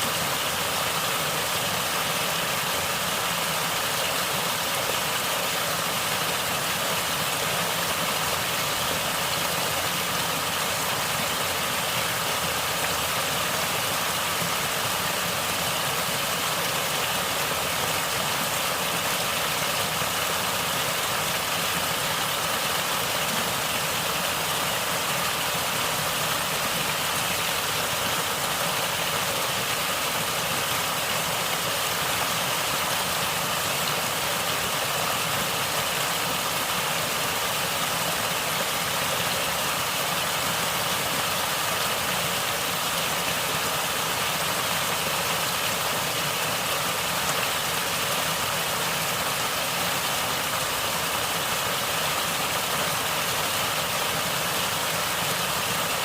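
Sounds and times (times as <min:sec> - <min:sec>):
flowing water gurgling: 0:00.0 - 0:56.0.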